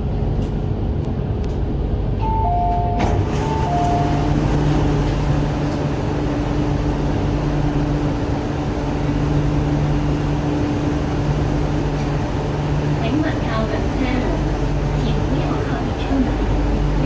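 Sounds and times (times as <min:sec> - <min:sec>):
metro wheels rumbling on rails: 0:00.0 - 0:17.0.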